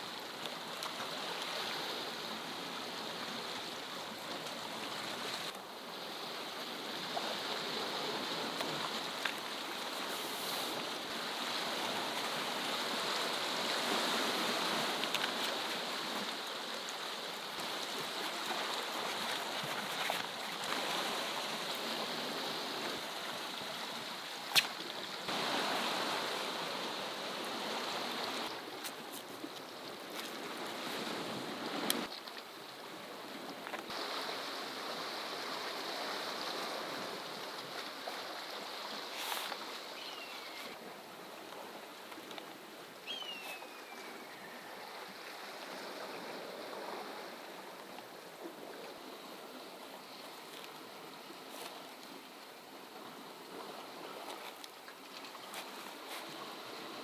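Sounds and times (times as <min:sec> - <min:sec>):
waves on a rocky shore: 0:00.0 - 0:57.0.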